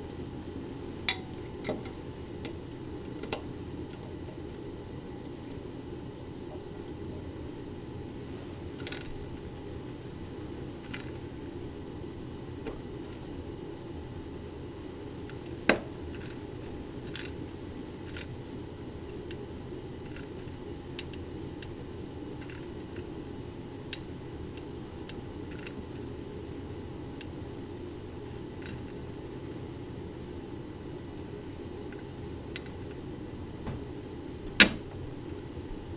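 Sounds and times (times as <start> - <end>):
low background hum: 0.0 - 35.9.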